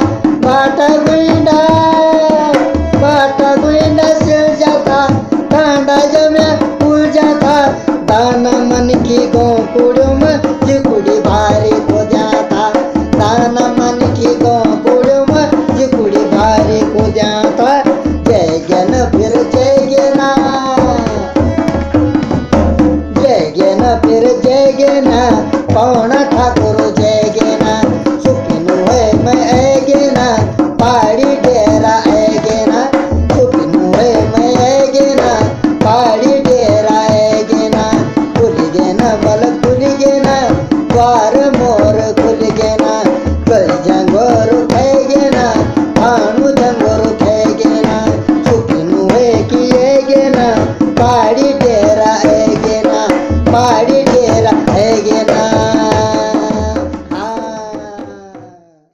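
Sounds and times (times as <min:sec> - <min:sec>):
dholak drumming: 0:00.0 - 0:58.9.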